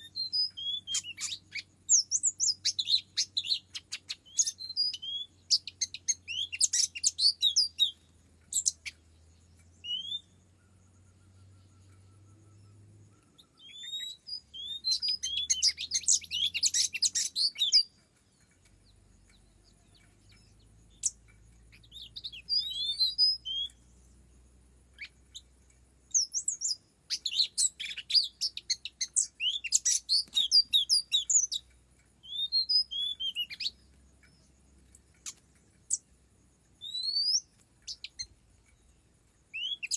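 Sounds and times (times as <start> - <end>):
bird singing chirps and whistles: 0.0 - 18.0, 18.8 - 24.2, 25.0 - 25.5, 26.1 - 34.5, 36.8 - 39.9.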